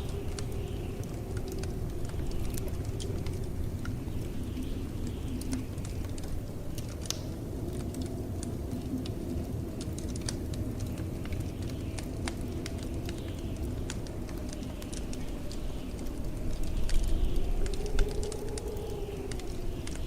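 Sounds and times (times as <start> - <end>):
blizzard wind rumble: 0.0 - 20.0
wood fire crackling: 0.0 - 20.0.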